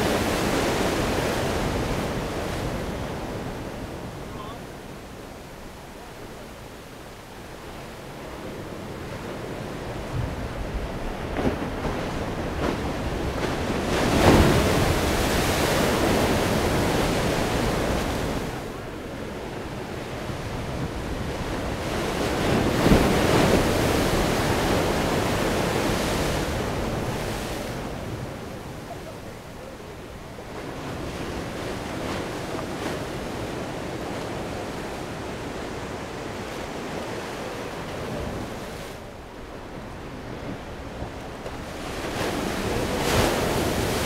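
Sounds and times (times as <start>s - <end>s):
ocean waves crashing: 0.0s - 44.0s
steady surf wash: 0.0s - 44.0s.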